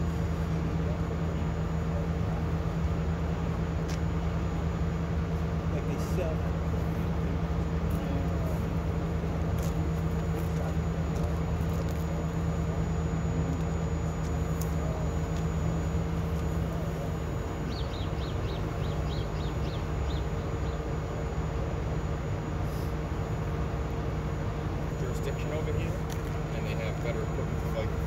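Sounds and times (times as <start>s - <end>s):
diesel engines droning: 0.0s - 28.0s.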